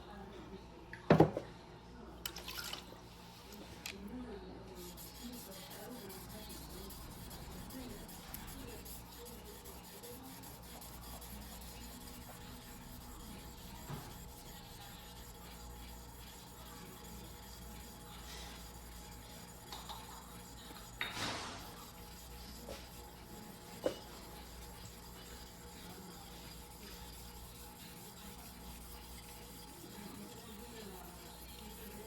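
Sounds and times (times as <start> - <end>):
blade scraping on whetstone: 4.8 - 32.0.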